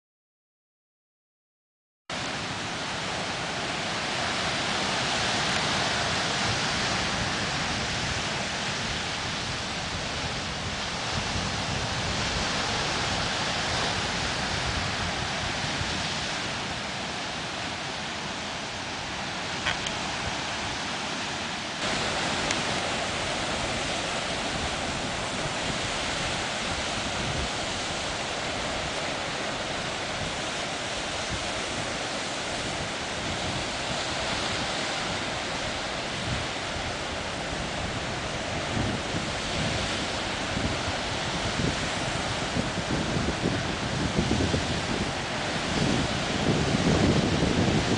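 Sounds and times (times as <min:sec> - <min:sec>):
surf breaking ashore: 0:02.1 - 0:47.9
wind buffeting microphone: 0:04.4 - 0:21.0, 0:21.8 - 0:47.9.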